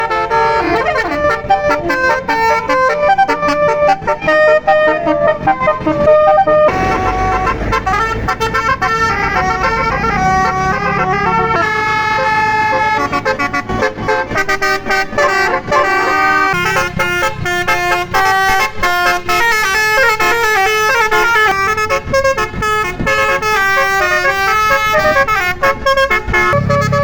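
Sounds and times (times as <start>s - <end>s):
bus air horn playing tunes: 0.0s - 27.0s
low engine rumble: 0.0s - 27.0s.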